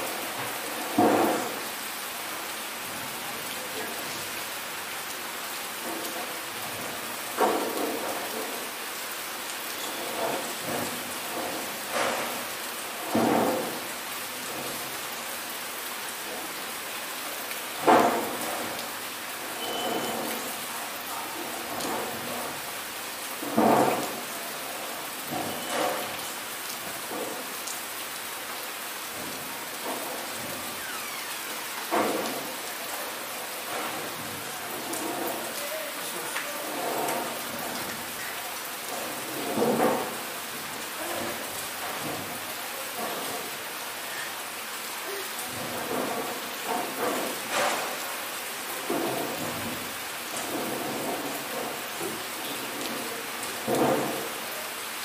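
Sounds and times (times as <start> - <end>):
rain on roofs and trees: 0.0 - 55.0.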